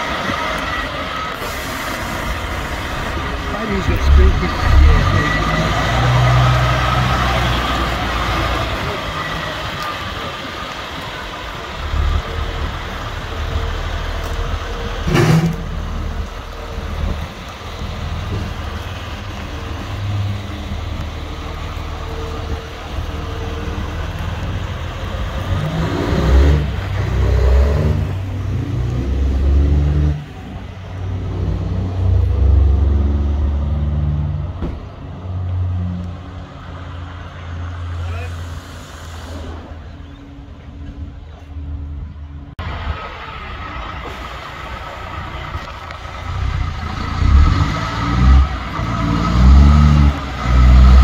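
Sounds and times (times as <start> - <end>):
engine running and revving: 0.0 - 39.7, 43.9 - 51.0.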